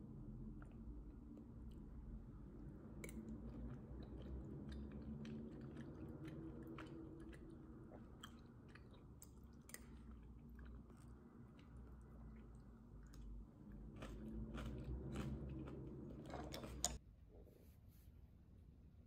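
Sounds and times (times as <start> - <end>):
chewing soft dough: 0.0 - 17.0.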